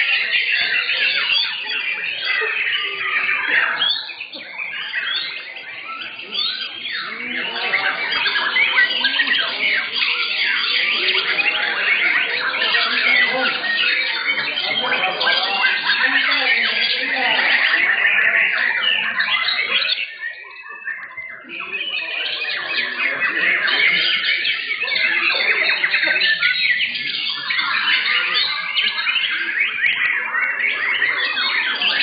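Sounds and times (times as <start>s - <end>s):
chorus of birds singing: 0.0s - 32.0s.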